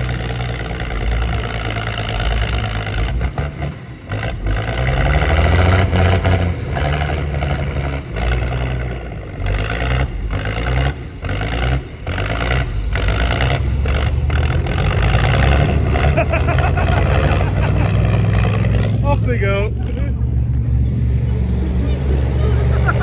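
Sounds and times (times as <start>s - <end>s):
truck engine running unevenly: 0.0s - 23.0s.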